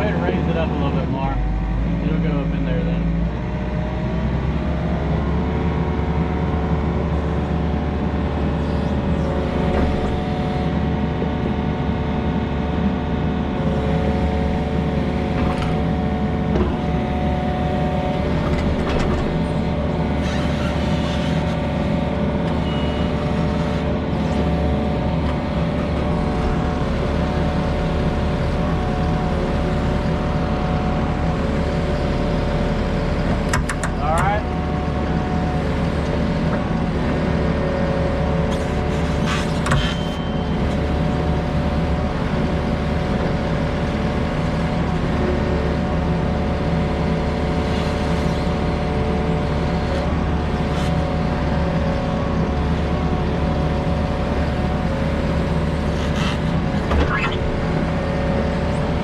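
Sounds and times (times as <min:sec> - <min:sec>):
heavy equipment engine running: 0:00.0 - 0:59.0.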